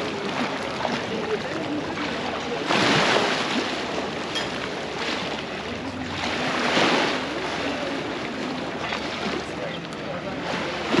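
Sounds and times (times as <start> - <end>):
lake waves against stone embankment: 0.0 - 11.0.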